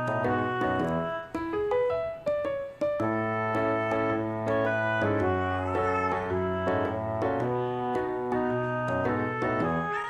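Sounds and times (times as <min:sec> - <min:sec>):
gentle keyboard piece: 0:00.0 - 0:10.0.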